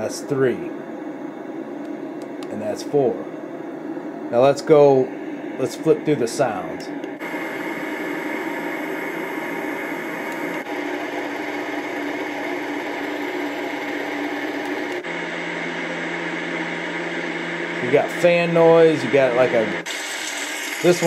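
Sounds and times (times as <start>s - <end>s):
white noise machine hiss: 0.0s - 15.1s, 17.6s - 21.0s
steady low hum: 0.0s - 20.0s.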